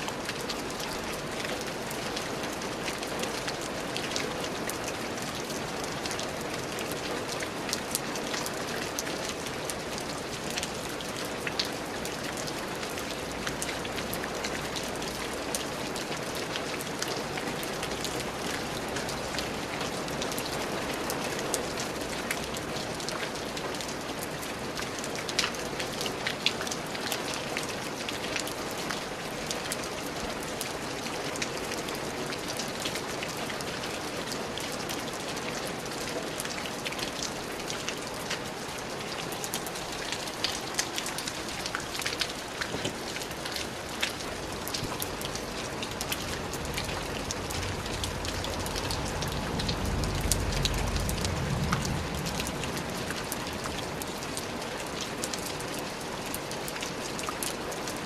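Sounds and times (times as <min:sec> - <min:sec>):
steady rain on a surface: 0:00.0 - 0:58.0.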